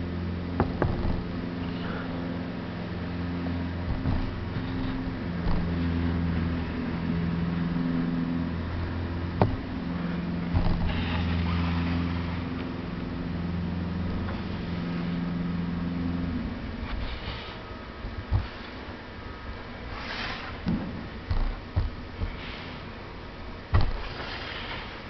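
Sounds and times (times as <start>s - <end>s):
low droning hum: 0.0s - 25.0s.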